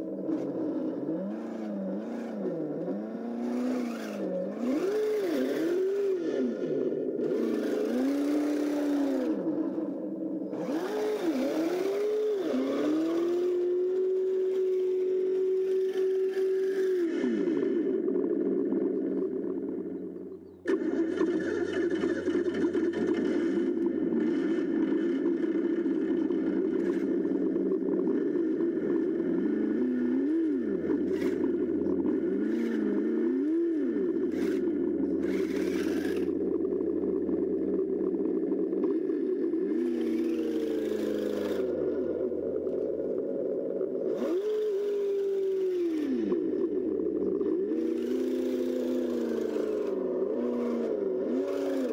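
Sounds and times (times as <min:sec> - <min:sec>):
simulated engine through small speaker: 0:00.0 - 0:51.9.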